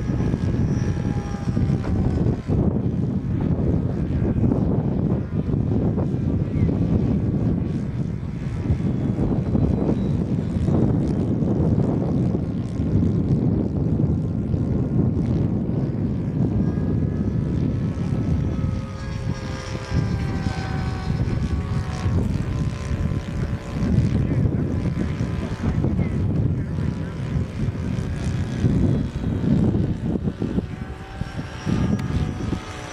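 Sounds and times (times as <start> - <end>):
model airplane motor whining: 0.0 - 32.9
wind rumble on microphone: 0.0 - 32.9.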